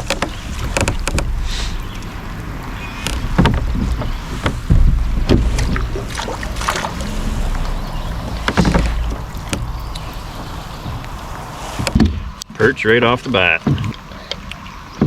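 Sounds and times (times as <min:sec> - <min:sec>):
knocks and taps on kayak: 0:00.0 - 0:12.3
low rumble: 0:00.0 - 0:12.6.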